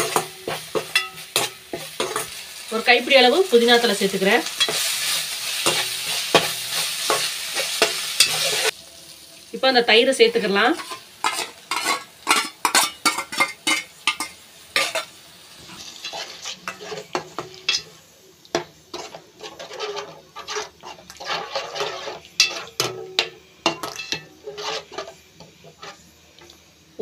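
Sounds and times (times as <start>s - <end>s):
metal spatula scraping a pan: 0.0s - 8.7s, 10.7s - 26.2s
food sizzling: 0.0s - 27.0s.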